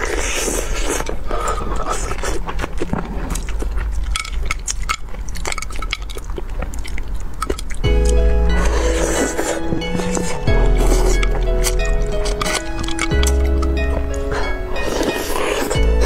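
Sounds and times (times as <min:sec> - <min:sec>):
wet chewing and smacking: 0:00.0 - 0:16.0.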